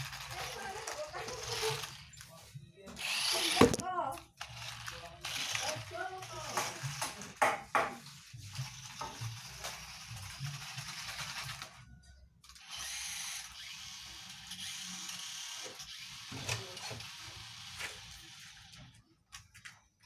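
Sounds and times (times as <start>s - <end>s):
toy car electric motor whirring: 0.0s - 2.3s, 3.0s - 7.4s, 8.0s - 19.7s.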